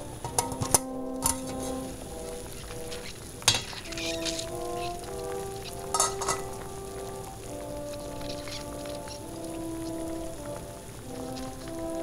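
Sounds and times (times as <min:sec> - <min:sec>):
background music of held notes: 0:00.0 - 0:12.0
water boiling in a pot: 0:00.0 - 0:12.0.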